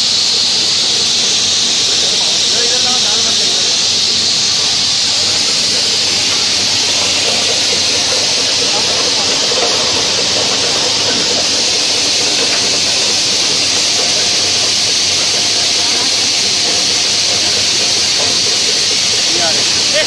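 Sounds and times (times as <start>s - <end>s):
mill machine hissing: 0.0s - 20.0s.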